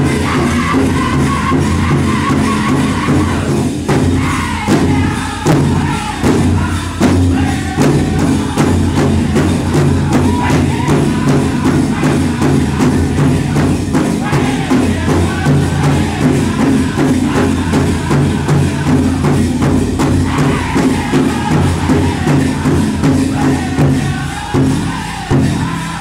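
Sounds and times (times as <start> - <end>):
big drum beating: 0.0 - 26.0
group singing: 0.0 - 26.0.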